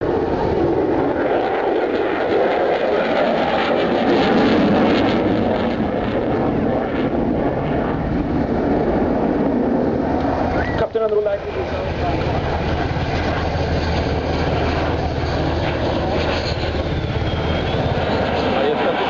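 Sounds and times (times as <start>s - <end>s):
jet fighter engine roar: 0.0s - 19.0s.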